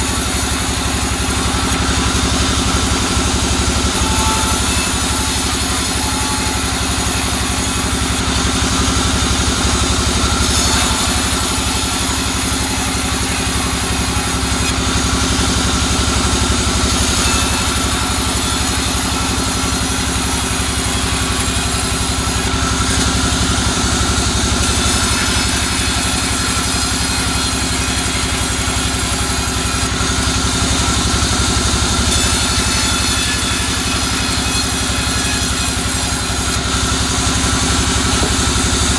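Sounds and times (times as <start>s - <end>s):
bandsaw ripping wood: 0.0s - 38.9s.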